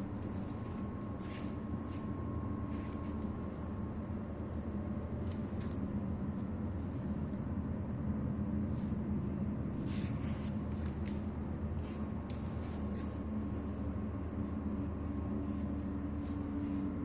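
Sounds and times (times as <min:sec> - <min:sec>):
low rumble with droning hum: 0:00.0 - 0:17.0.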